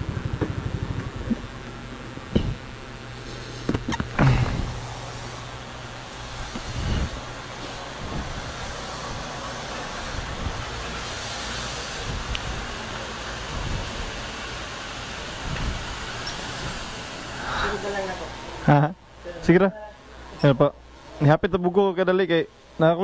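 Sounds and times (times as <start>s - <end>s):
road traffic rumble: 0.0s - 18.7s.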